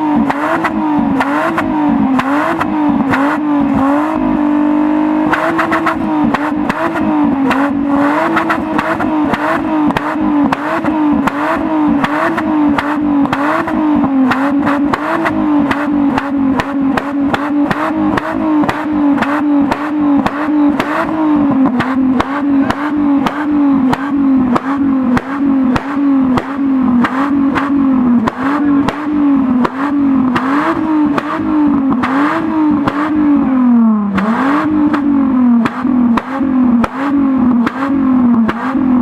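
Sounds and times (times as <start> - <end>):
car engine revving with crackles: 0.0 - 39.0.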